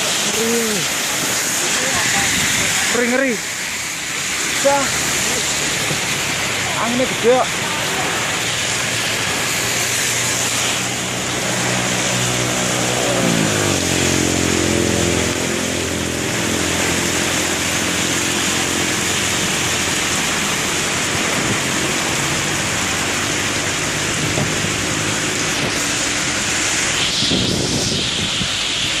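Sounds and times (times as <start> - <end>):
strong wind: 0.0 - 3.0, 7.5 - 29.0
heavy rain pouring: 0.0 - 29.0.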